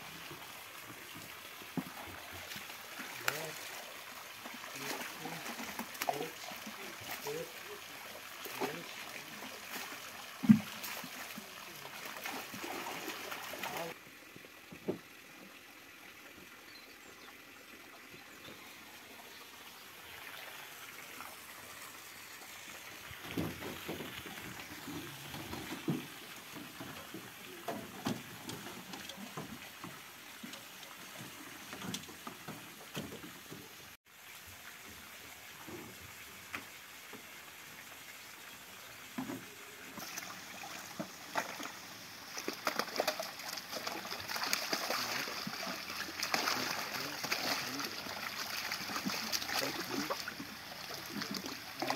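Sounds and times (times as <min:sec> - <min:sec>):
water pouring and splashing: 0:00.0 - 0:15.4, 0:19.9 - 0:38.2, 0:38.8 - 0:51.9
outdoor background: 0:00.0 - 0:51.9.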